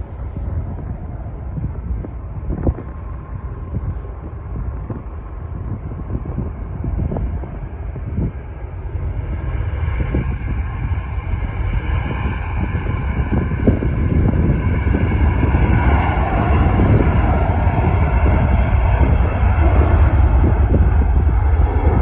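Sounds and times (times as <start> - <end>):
high engine whine: 0.0 - 22.0
jet engines rumbling: 0.0 - 22.0
wind buffeting microphone: 0.0 - 22.0.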